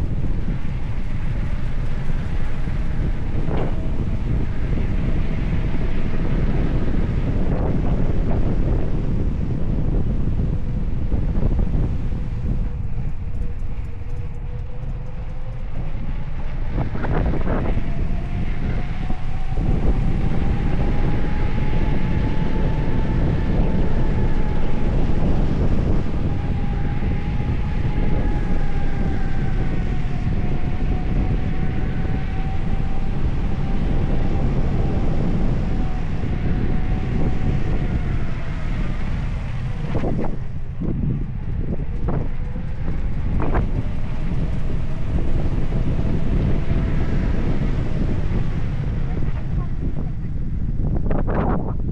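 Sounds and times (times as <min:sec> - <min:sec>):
thin rising whine: 0:00.0 - 0:51.9
wind buffeting microphone: 0:00.0 - 0:51.9.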